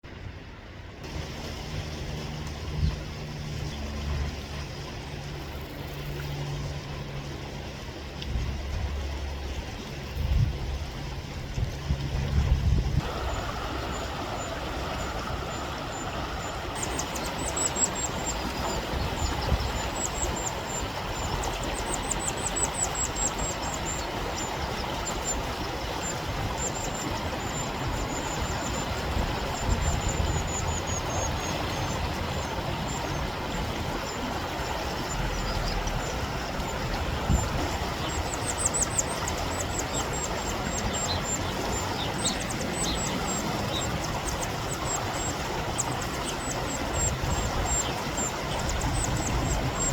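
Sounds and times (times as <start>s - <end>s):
mountain stream rushing: 1.0s - 12.4s, 13.0s - 49.9s.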